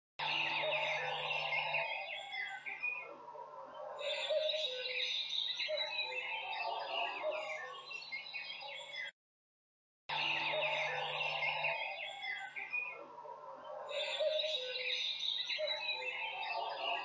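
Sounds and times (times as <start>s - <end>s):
bird chirps and twittering: 0.2s - 3.1s, 3.8s - 9.1s, 10.1s - 13.0s, 13.7s - 17.0s.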